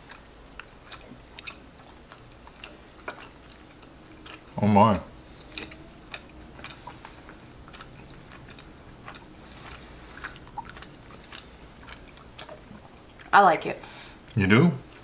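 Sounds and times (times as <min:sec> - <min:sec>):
mouth clicks and smacks: 0:00.0 - 0:04.5, 0:05.3 - 0:13.3
people chewing: 0:00.0 - 0:15.0.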